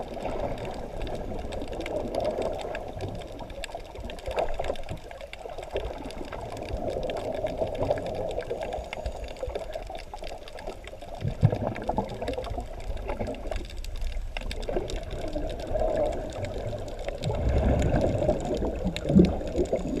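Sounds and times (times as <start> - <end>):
low rumble of water moving: 0.0 - 20.0
regulator bubbles gurgling underwater: 0.0 - 20.0.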